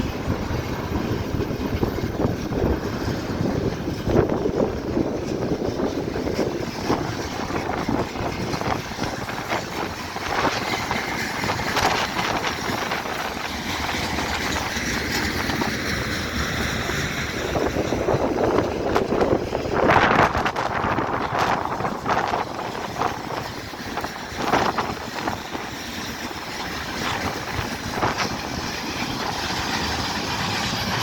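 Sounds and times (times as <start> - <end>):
train wheels on rails: 0.0 - 31.0
wind buffeting microphone: 0.0 - 31.0.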